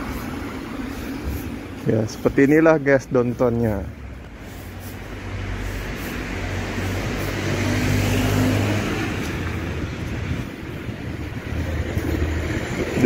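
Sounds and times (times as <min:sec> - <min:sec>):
car passing by: 0:00.0 - 0:13.0.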